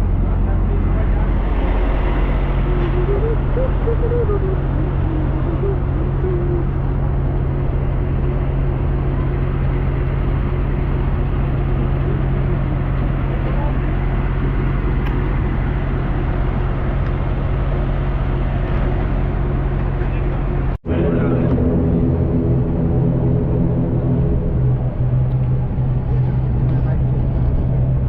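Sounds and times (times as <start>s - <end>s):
even rushing noise: 0.0s - 28.0s
low engine drone: 0.0s - 28.0s.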